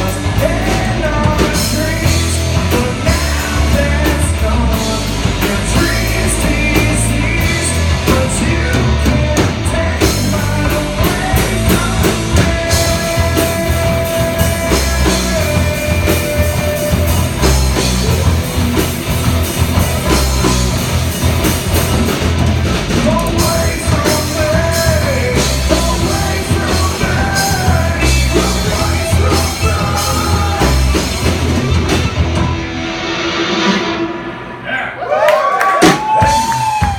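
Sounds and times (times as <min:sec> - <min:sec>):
person singing: 0:00.0 - 0:21.5, 0:22.9 - 0:32.2
guitar: 0:00.0 - 0:34.7
drum kit: 0:00.0 - 0:36.9.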